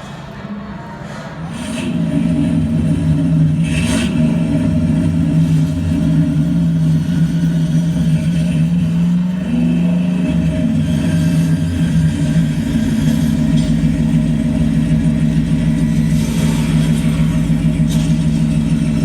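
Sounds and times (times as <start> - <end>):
motor humming: 1.5 - 19.0.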